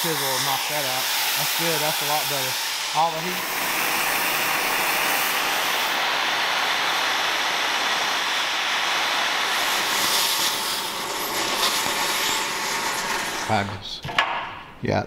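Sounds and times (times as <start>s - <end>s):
cutting torch hissing: 0.0s - 14.0s.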